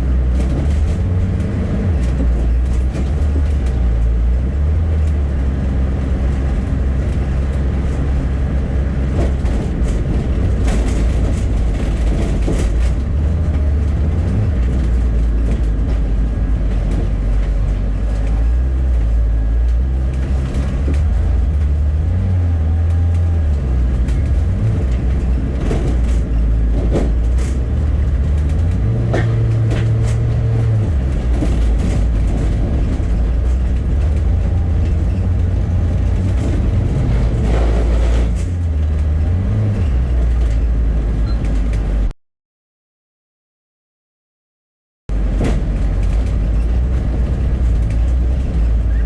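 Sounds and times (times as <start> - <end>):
bus engine drone: 0.0 - 42.2, 45.1 - 49.0
knocks and rattles: 0.1 - 42.1, 45.1 - 49.0.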